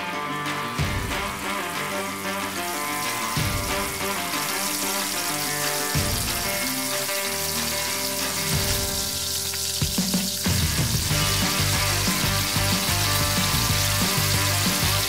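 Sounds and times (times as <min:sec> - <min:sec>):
background music: 0:00.0 - 0:15.0
oil sizzling in a deep fryer: 0:00.8 - 0:15.0.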